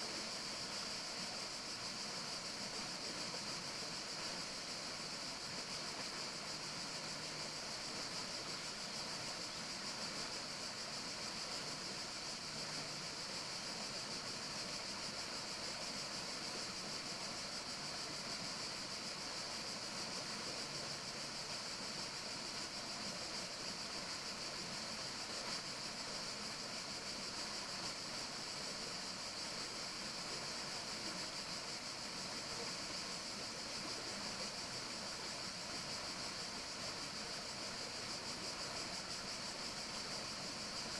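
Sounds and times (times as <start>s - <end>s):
steady forest ambience hiss: 0.0s - 40.9s.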